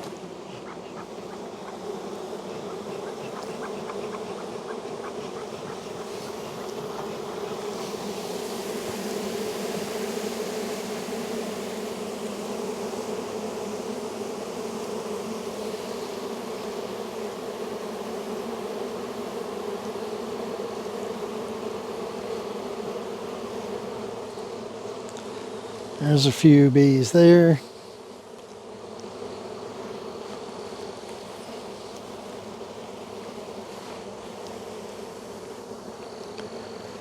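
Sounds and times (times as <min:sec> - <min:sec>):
honey bees buzzing: 0:00.0 - 0:37.0.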